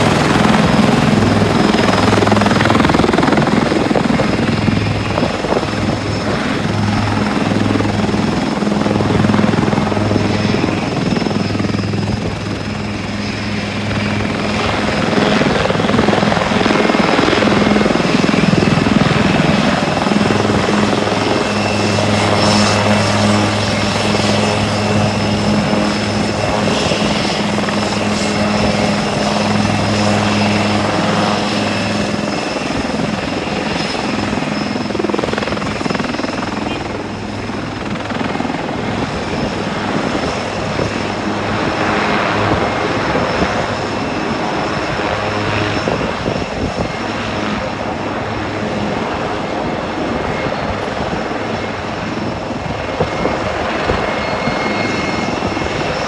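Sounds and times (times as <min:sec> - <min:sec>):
helicopter rotor noise: 0:00.0 - 0:56.0
turbine whine: 0:00.0 - 0:56.0.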